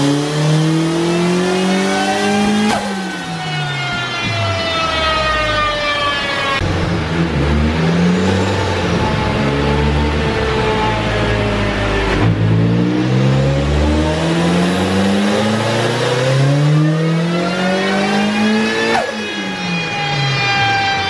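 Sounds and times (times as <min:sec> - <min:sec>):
car engine revving: 0:00.0 - 0:05.7, 0:06.3 - 0:21.0.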